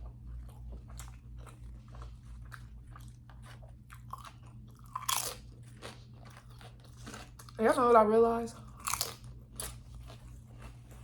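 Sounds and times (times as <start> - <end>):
person chewing crunchy food: 0.0 - 7.6, 8.6 - 11.0.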